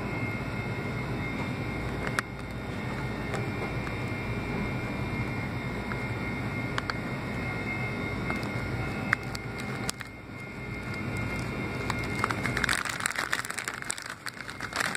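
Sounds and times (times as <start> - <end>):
faint high whine: 0.0 - 14.9
machinery droning hum: 0.0 - 14.9.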